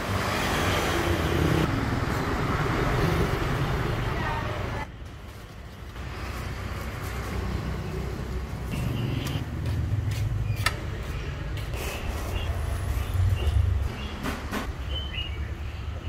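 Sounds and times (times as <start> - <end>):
low rumble of street traffic: 0.0 - 16.0.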